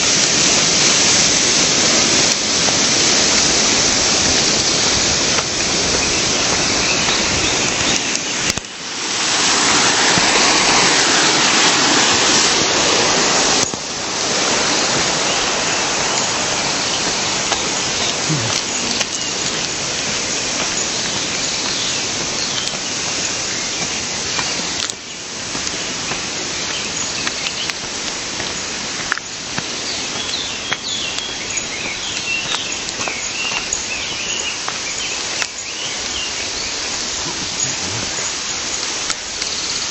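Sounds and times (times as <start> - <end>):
rushing stream water: 0.0 - 39.9.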